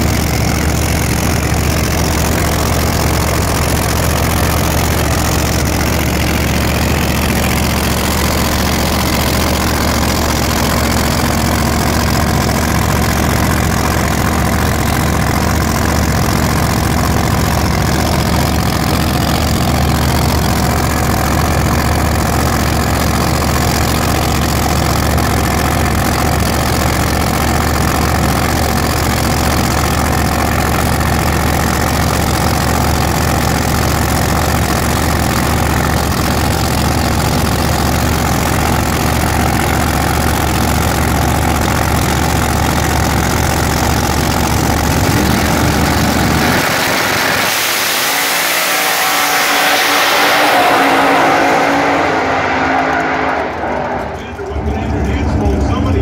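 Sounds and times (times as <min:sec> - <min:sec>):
car engine idling loudly: 0:00.0 - 0:56.0.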